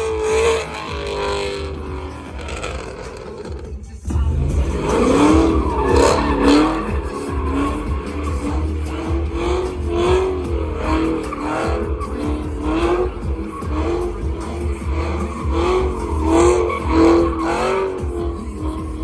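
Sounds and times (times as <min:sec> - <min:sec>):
engine revving high: 0:00.0 - 0:19.0
tyres squealing: 0:00.0 - 0:19.0.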